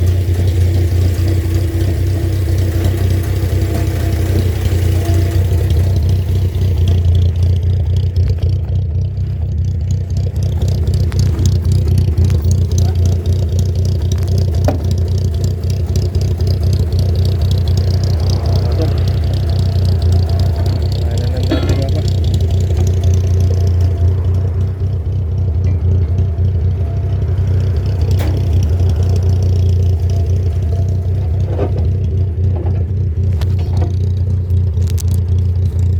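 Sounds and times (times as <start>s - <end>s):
vehicle engine droning: 0.0s - 35.9s.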